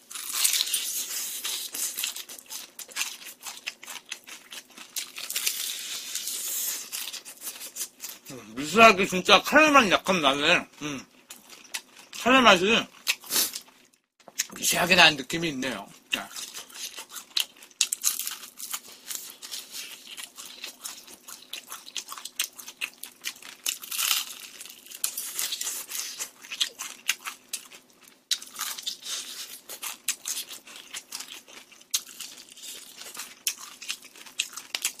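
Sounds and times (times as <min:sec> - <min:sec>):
crunching fried chicken: 0:00.0 - 0:08.9, 0:10.8 - 0:35.0.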